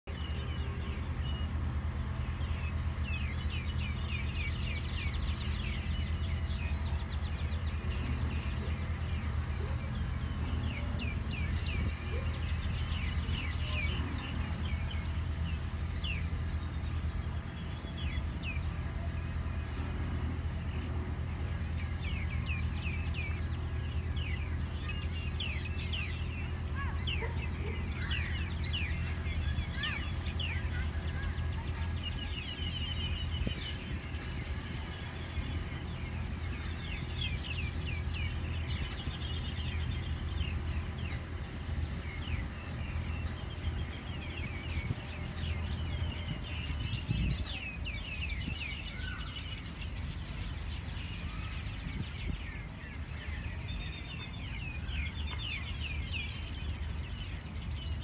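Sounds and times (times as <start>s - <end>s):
small birds chirping: 0.0s - 58.0s
low background rumble: 0.1s - 58.0s.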